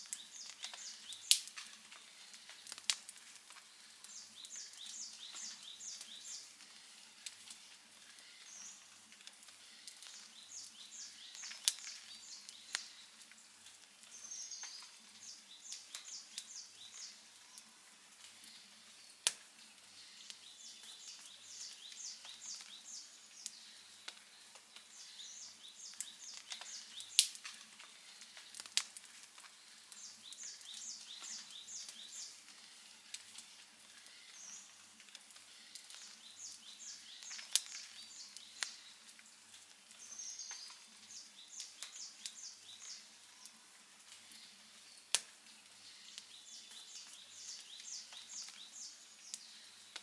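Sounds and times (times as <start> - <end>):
campfire crackling and popping: 0.0 - 50.0
soft hiss: 0.0 - 50.0.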